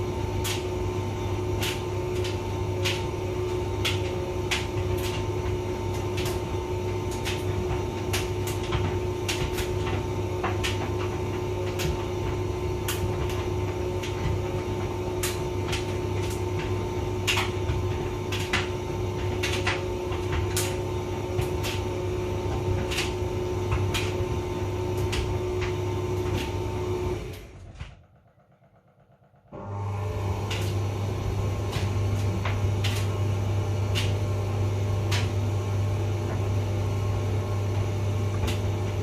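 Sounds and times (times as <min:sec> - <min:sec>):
load tumbling in dryer: 0:00.0 - 0:28.6, 0:29.6 - 0:39.0
tumble dryer motor hum: 0:00.0 - 0:39.0.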